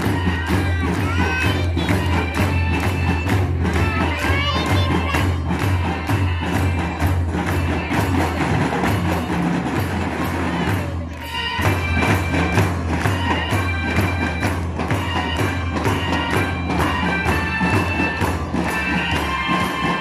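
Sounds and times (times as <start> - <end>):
marching drums and cymbals: 0.0 - 20.0.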